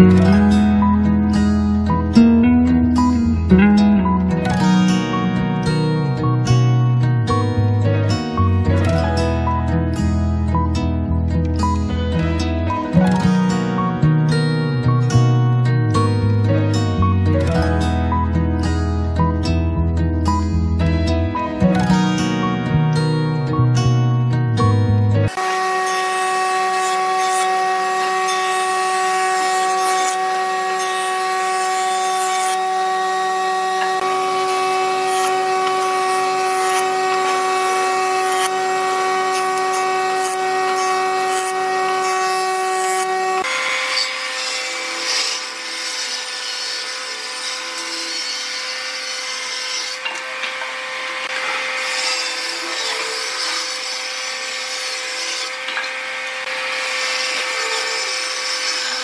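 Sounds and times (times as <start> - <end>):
jointer planing wood: 0.0 - 19.6, 24.6 - 59.0
table saw cutting wood: 0.0 - 59.0.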